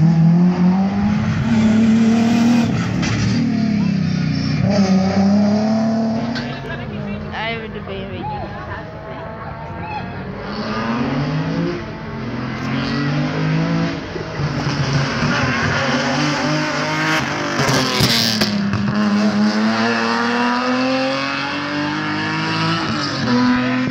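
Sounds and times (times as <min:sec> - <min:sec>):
car passing rush: 0:00.0 - 0:23.9
rally car engine revving: 0:00.0 - 0:23.9.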